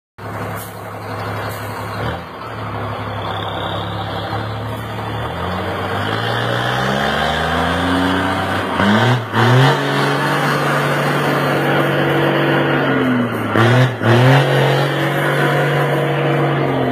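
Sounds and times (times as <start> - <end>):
truck diesel engine revving: 0.2 - 16.9.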